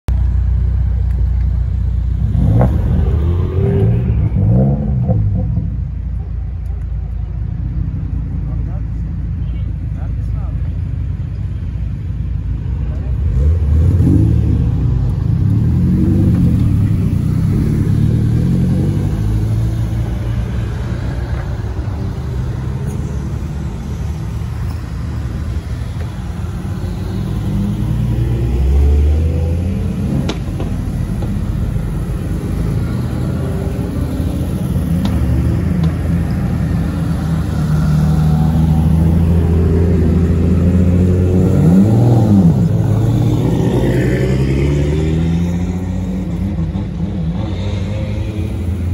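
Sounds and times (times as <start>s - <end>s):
cars passing at low speed: 0.1s - 48.9s.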